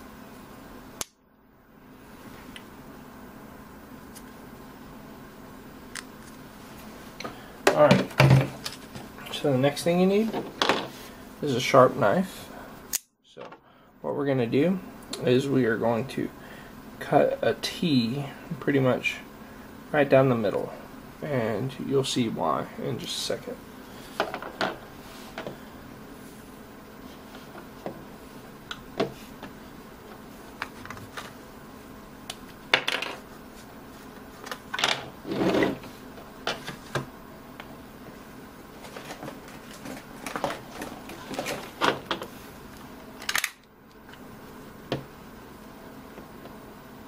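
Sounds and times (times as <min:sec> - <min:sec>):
steady low hiss: 0:00.0 - 0:47.0.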